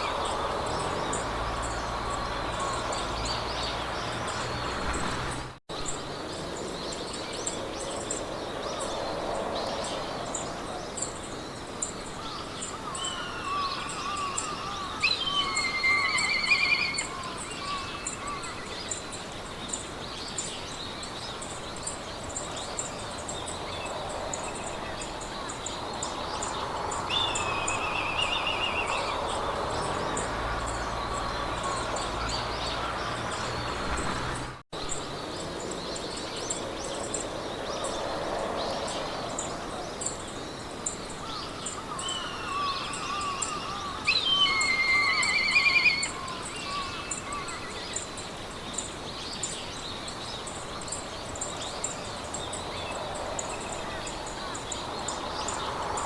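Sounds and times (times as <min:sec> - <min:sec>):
birds singing trills: 0:00.0 - 0:56.0
wind in grass: 0:00.0 - 0:56.0.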